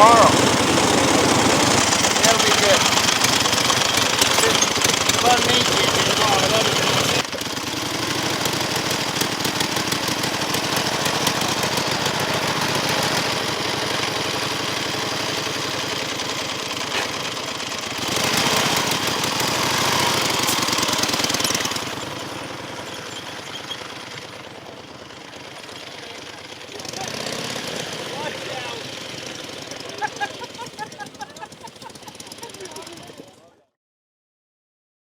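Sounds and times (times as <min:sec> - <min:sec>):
motorcycle engine running: 0:00.0 - 0:33.7.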